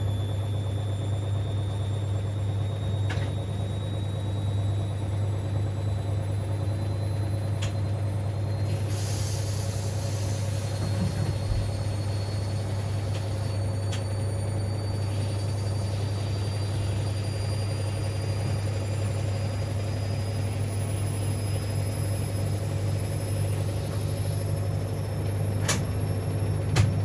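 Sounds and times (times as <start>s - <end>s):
washing machine motor hum: 0.0s - 10.0s, 10.6s - 27.0s.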